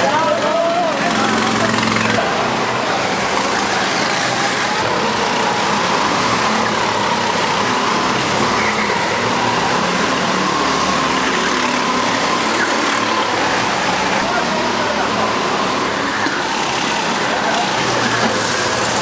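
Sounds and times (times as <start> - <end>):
go-kart engines droning: 0.0 - 19.0.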